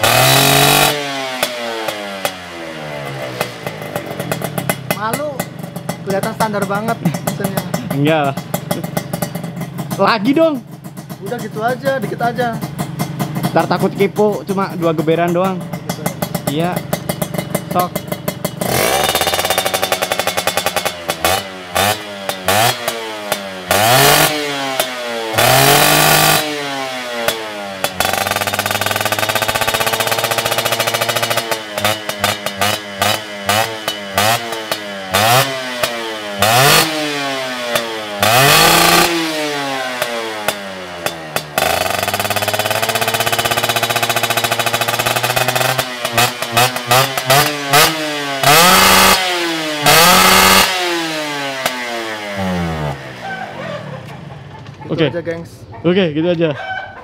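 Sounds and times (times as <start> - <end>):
exhaust crackles: 0.0 - 56.6
motorcycle engine revving: 0.0 - 57.0.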